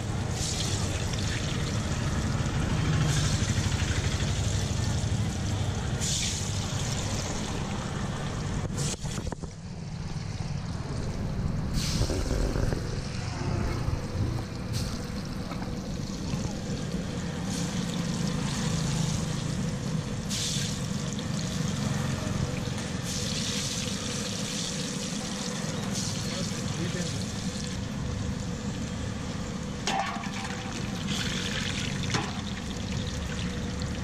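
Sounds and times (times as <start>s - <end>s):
food deep-frying in oil: 0.0s - 34.0s
street traffic rumble: 0.0s - 34.0s.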